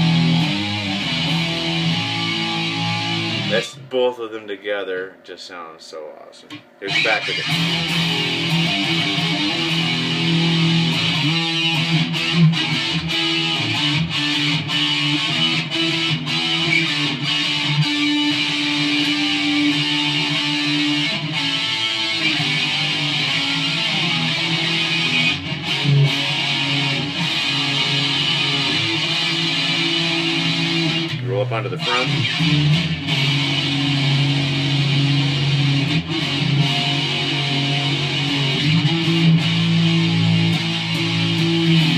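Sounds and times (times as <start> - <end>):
distorted electric guitar riffs: 0.0 - 41.9.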